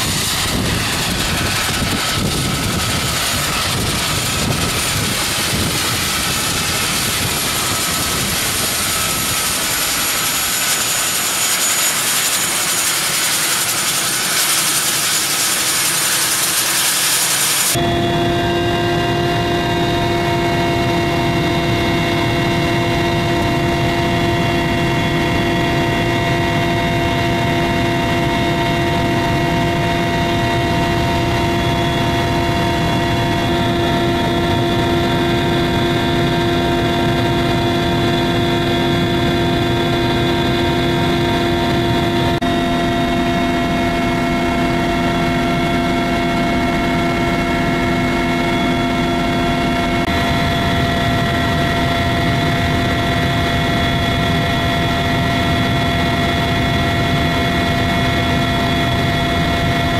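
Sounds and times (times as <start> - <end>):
helicopter engines and rotor drone: 0.0 - 59.9
steady whining tones: 0.0 - 59.9.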